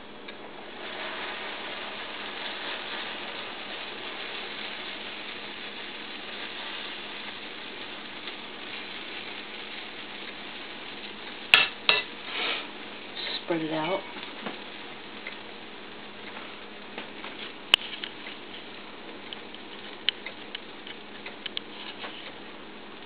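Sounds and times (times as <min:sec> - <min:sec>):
batter sizzling on a griddle: 0:00.0 - 0:23.0.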